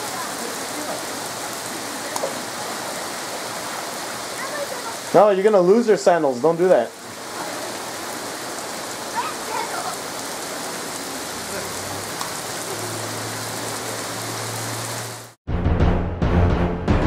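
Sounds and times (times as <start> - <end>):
heavy rain pouring: 0.0 - 15.4.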